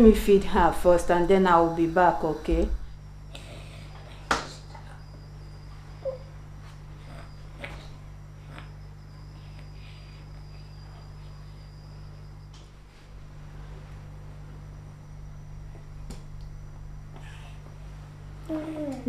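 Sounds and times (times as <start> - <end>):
faint high whine: 0.0 - 19.0
steady low hum: 0.0 - 19.0.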